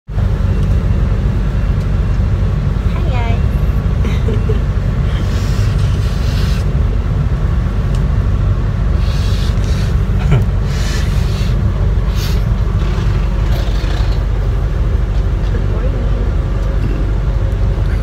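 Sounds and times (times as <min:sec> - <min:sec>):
bus engine rumble: 0:00.1 - 0:18.0.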